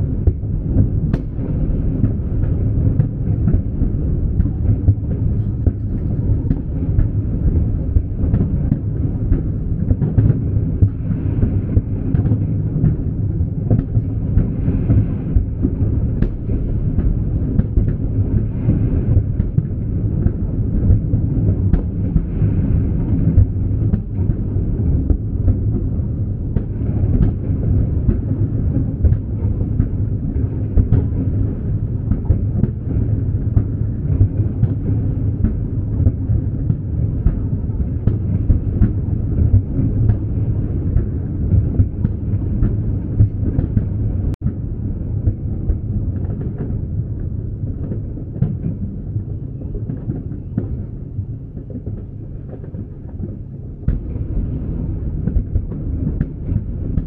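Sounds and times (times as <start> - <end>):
fireworks bangs and cracks: 0.0 - 57.0
fireworks booms rumbling: 0.0 - 57.0.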